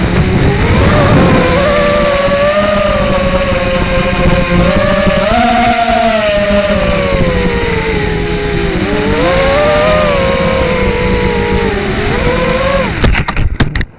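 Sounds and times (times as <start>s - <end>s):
quadcopter motors whining: 0.0s - 13.6s.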